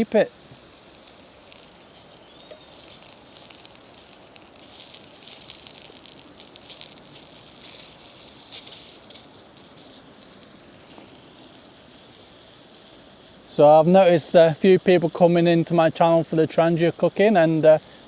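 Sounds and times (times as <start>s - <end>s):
sausages sizzling in a pan: 0.0s - 18.0s.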